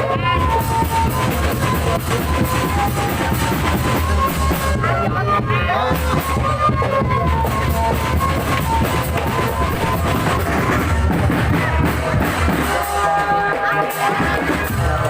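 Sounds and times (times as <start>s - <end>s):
drums steady beat: 0.0s - 15.0s
loud band music: 0.0s - 15.0s.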